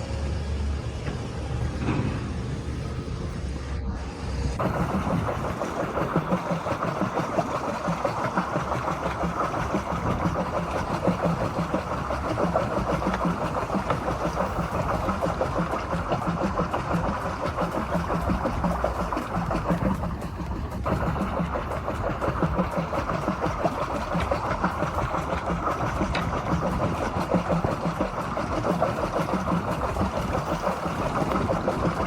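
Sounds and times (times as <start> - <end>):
engine chugging: 0.0 - 32.0.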